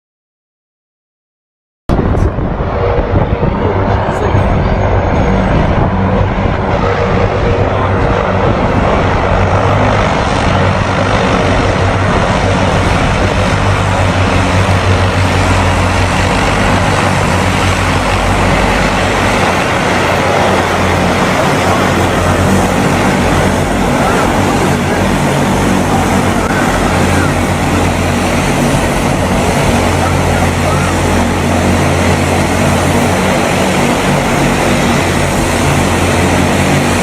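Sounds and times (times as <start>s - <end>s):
helicopter engine and rotor: 1.9s - 37.0s.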